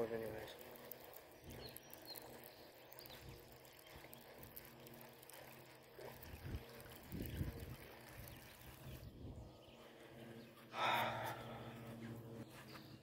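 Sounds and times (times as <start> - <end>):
low hum: 0.6 - 13.0.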